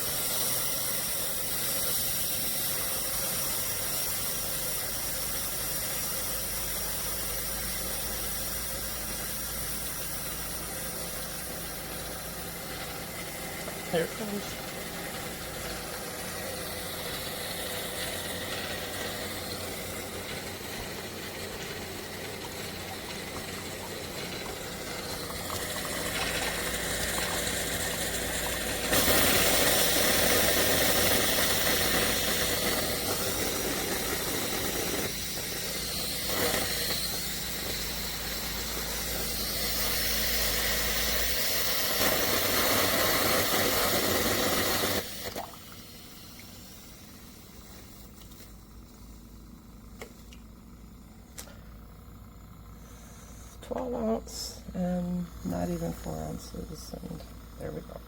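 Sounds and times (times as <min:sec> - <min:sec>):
steam hissing: 0:00.0 - 0:57.9
coffee maker humming: 0:00.0 - 0:58.0.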